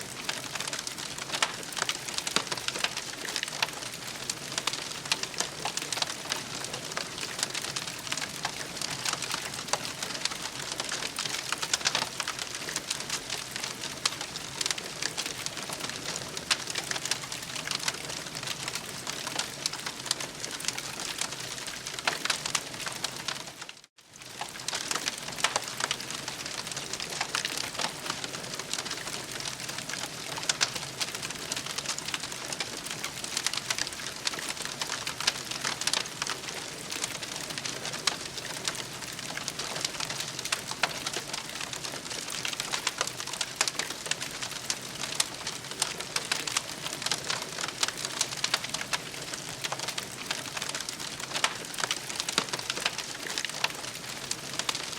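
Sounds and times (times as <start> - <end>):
campfire crackling: 0.1 - 54.9.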